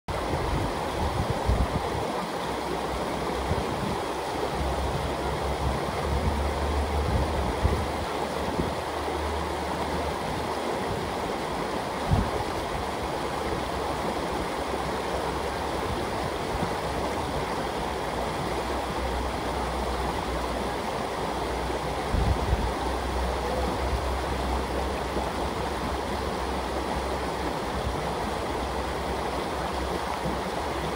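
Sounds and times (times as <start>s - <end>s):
river babbling over rocks: 0.1s - 30.9s.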